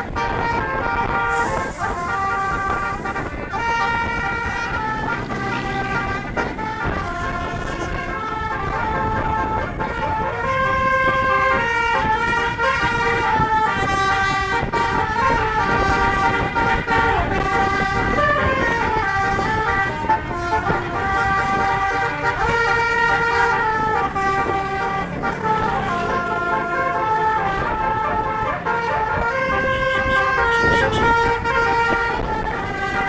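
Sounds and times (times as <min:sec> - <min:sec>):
musical air horn melody: 0:00.0 - 0:33.0.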